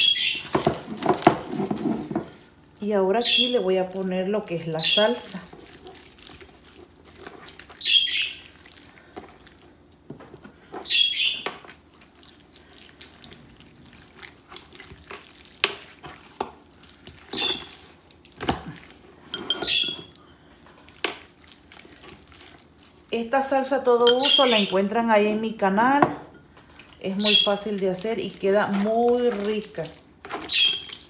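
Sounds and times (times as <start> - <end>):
hands kneading wet meat: 0.0 - 31.0.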